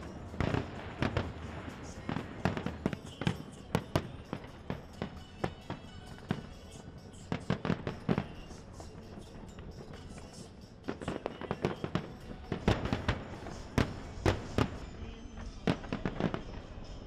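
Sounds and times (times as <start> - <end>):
firework shells bursting: 0.0 - 16.9
firework crackling: 0.0 - 17.0.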